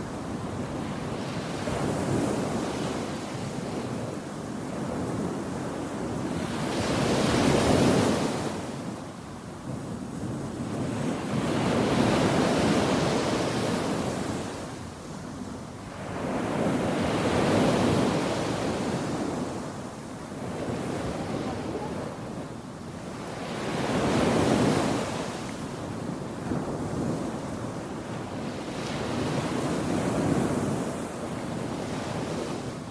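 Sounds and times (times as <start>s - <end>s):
surf washing onto shore: 0.0s - 32.9s
wind buffeting microphone: 0.0s - 32.9s.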